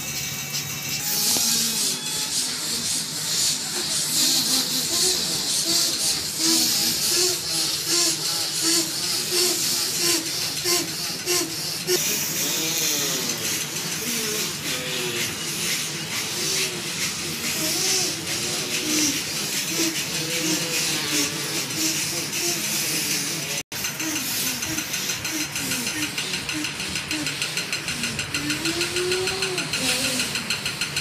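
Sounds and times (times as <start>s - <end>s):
fast rhythmic breathing: 1.5s - 31.0s.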